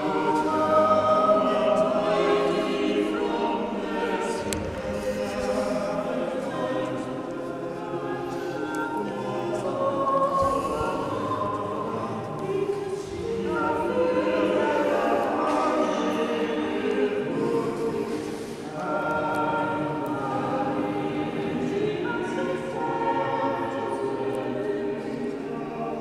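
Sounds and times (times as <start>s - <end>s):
choir singing: 0.0s - 26.0s.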